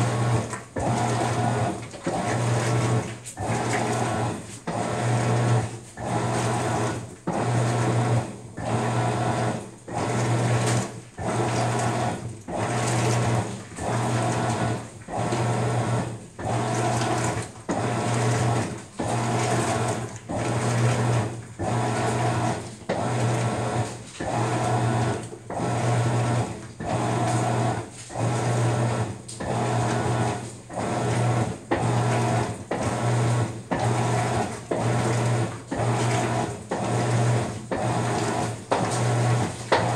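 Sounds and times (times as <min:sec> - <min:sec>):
washing machine agitating: 0:00.0 - 0:39.9.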